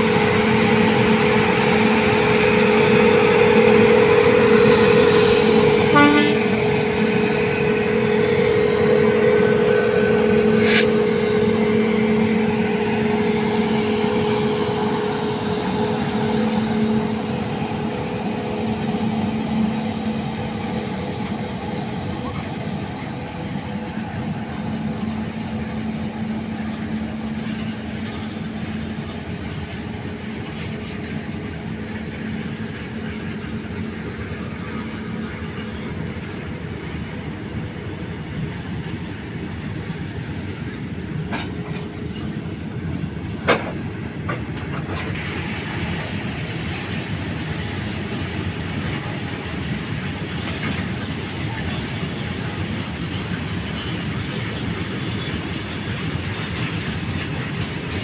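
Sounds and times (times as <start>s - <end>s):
electric locomotive hum: 0.0s - 58.0s.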